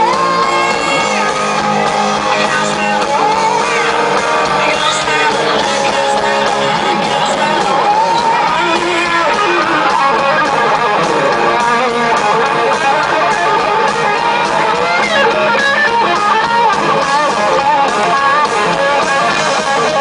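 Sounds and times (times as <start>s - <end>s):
electric guitar: 0.0s - 20.0s
rock band playing instrumental: 0.0s - 20.0s.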